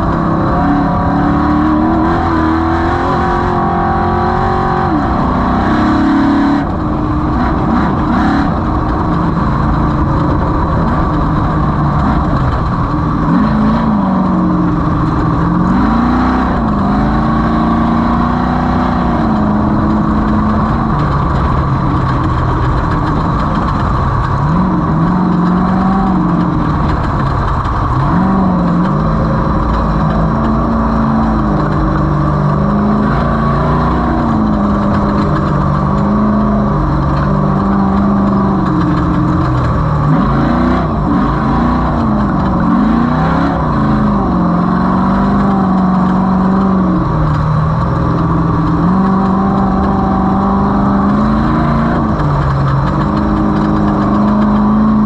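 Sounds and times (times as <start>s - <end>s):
race vehicle engine revving: 0.0s - 55.0s
rough driving noise: 0.0s - 55.0s.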